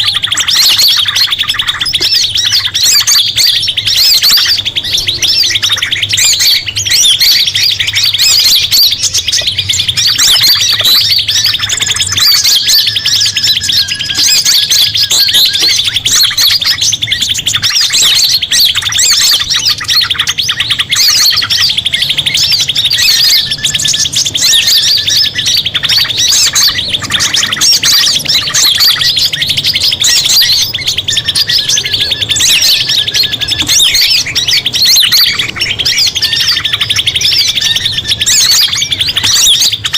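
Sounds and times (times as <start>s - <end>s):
low whistled bird notes: 0.0s - 39.9s
songbirds chirping and trilling: 0.0s - 39.9s.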